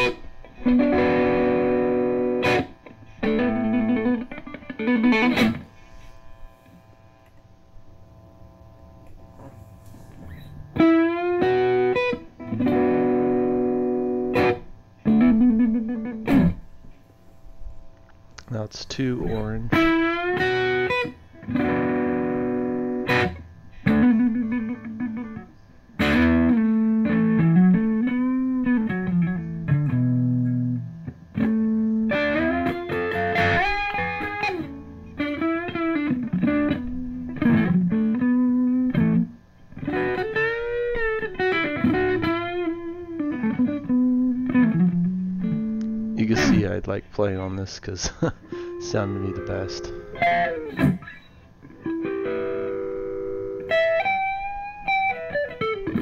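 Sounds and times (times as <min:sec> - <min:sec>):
electric guitar melody with bends: 0:00.0 - 0:56.0.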